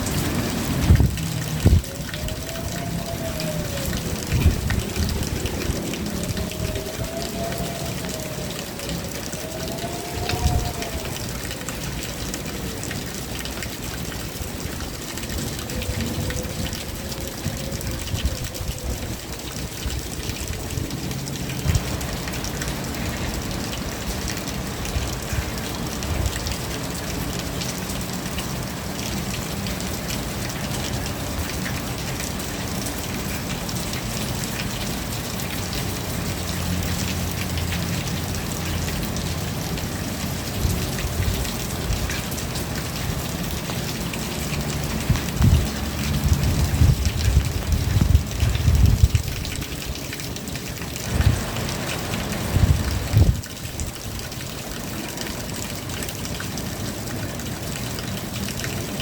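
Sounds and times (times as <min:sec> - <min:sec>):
raindrops ticking on surfaces: 0:00.0 - 0:59.0
steady rain falling: 0:00.0 - 0:59.0.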